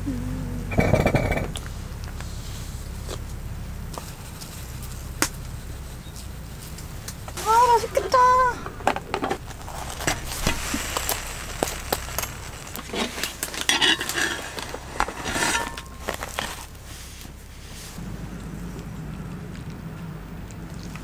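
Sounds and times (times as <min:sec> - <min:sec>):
rain hissing: 0:01.5 - 0:21.0.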